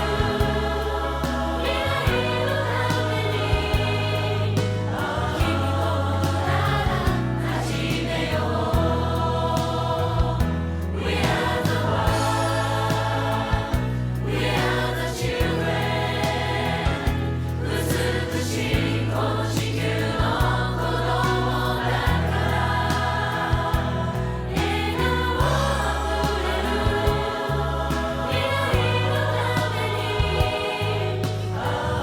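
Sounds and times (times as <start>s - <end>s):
song with choir-like singing: 0.0s - 32.0s.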